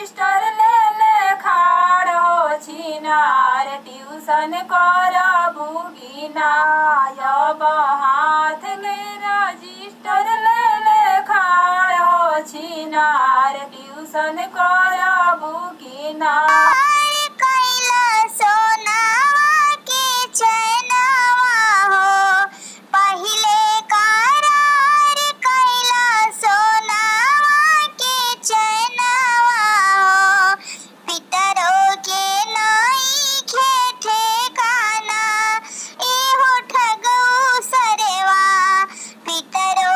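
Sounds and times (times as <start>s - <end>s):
woman singing folk song: 0.0s - 39.9s.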